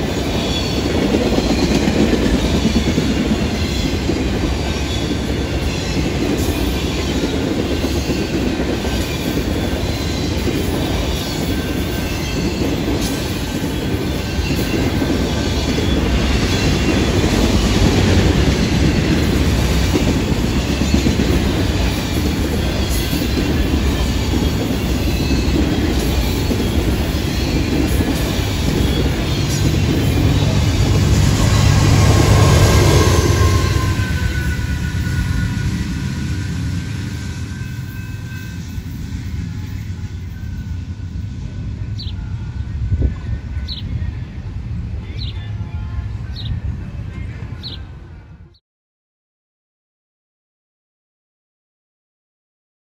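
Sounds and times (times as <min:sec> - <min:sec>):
freight train wheels rumbling: 0:00.0 - 0:48.6.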